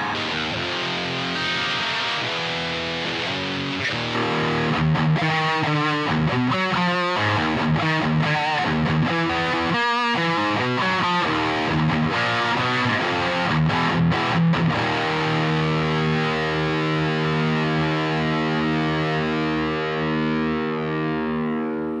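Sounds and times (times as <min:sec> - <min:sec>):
distorted electric guitar chords: 0:00.0 - 0:22.0.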